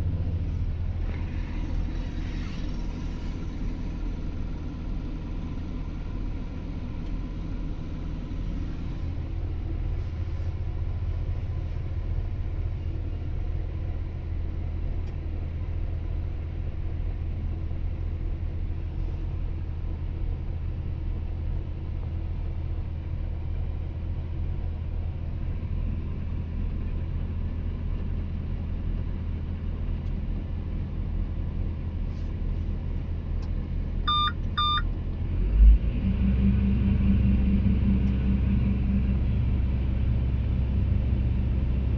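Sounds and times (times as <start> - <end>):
excavator diesel engine droning: 0.0 - 41.9.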